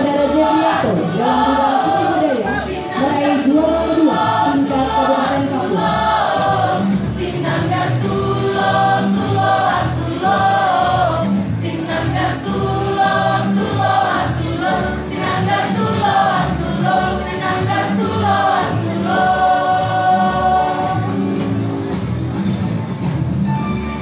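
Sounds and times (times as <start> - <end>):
choir singing: 0.0 - 21.4.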